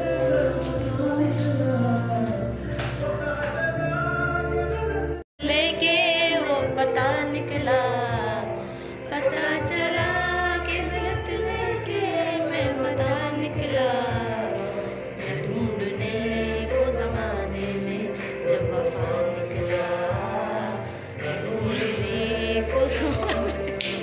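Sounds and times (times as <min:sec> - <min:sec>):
song with sung vocals: 0:00.0 - 0:24.0.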